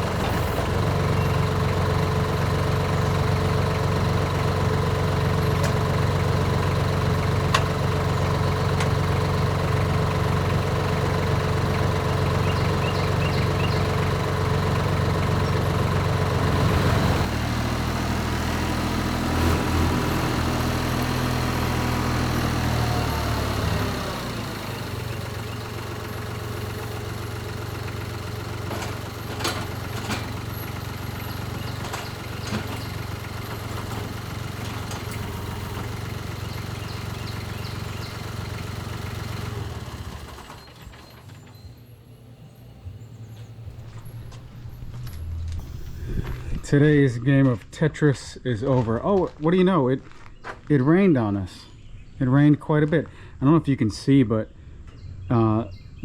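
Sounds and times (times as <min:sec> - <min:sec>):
engine running: 0:00.0 - 0:50.2.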